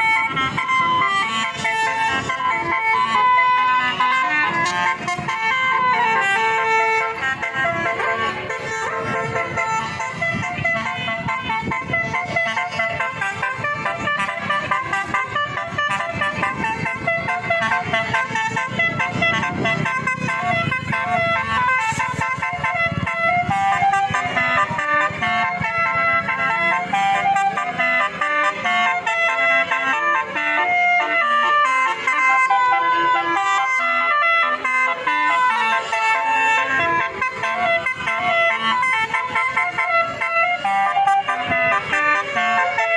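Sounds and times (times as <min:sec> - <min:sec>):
bus horn melody: 0:00.0 - 0:42.9
low engine rumble: 0:00.0 - 0:42.9.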